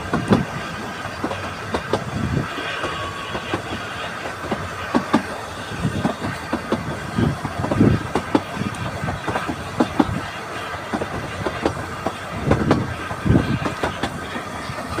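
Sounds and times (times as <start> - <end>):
train carriage rumble: 0.0 - 15.0
wheels clicking over rail joints: 0.0 - 15.0.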